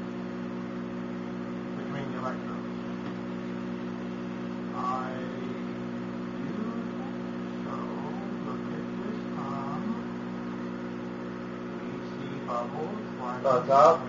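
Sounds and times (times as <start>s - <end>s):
microwave oven electrical hum: 0.0s - 14.0s.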